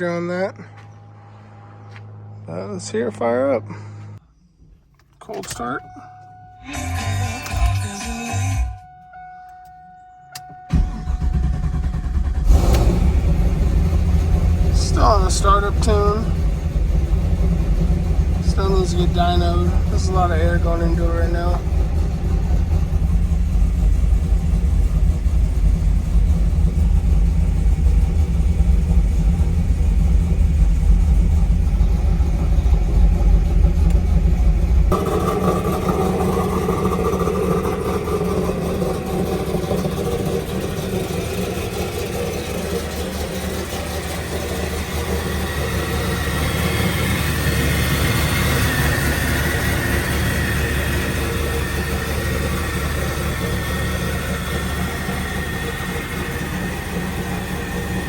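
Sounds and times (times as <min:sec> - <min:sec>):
car engine idling: 0:04.6 - 0:58.0.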